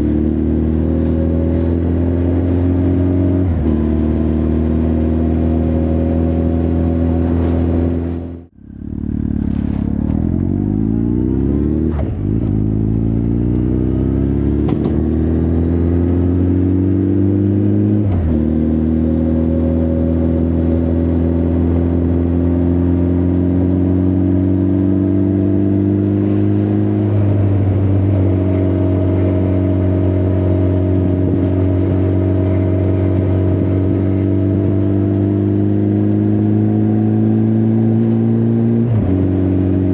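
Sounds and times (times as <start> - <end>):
motorcycle engine upshifting: 0.0 - 19.2, 24.1 - 39.9.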